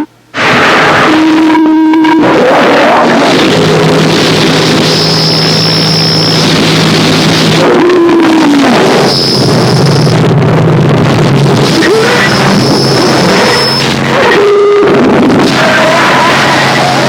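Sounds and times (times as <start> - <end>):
steady low drone: 0.0 - 17.0
thin high whine: 0.0 - 17.0
wall of distorted noise: 0.0 - 17.0.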